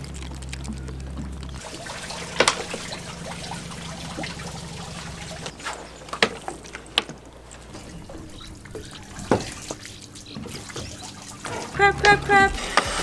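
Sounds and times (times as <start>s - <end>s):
low steady hum: 0.0s - 13.0s
water sloshing and trickling: 0.0s - 13.0s.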